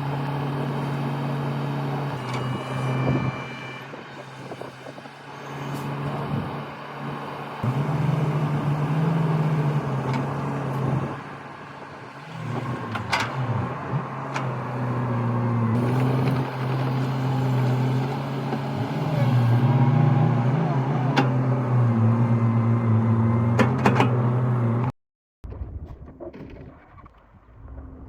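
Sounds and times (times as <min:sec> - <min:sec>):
excavator diesel engine: 0:00.0 - 0:24.9.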